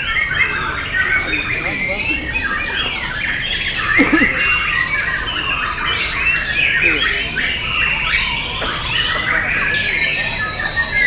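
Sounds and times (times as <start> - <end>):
many songbirds singing: 0.0 - 11.0.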